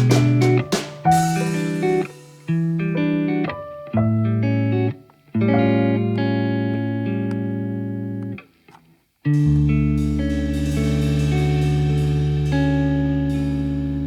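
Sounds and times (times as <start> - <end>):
guitar playing sustained chords: 0.0 - 8.4, 9.3 - 14.0.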